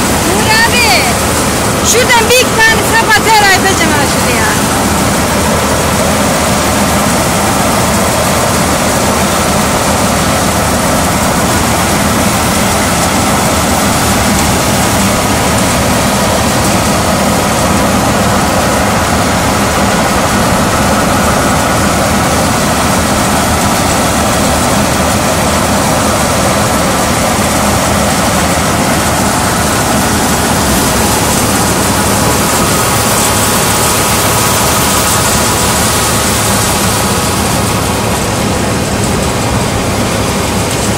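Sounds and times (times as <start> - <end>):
threshing machine running: 0.0 - 40.9
tractor engine running: 0.0 - 40.9.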